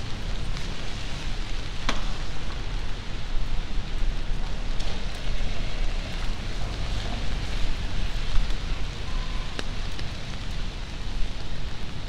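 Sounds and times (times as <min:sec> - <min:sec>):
rain on wet street: 0:00.0 - 0:12.0.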